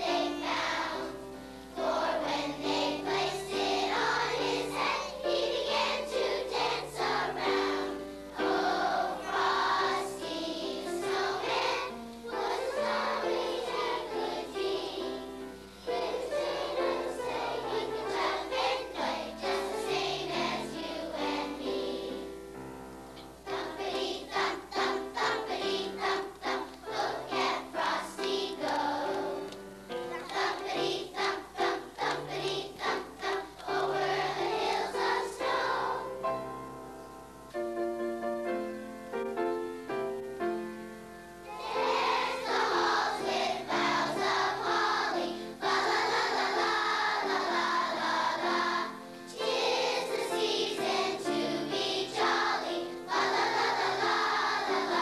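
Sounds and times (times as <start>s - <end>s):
girls choir singing: 0.0s - 36.6s, 41.4s - 55.0s.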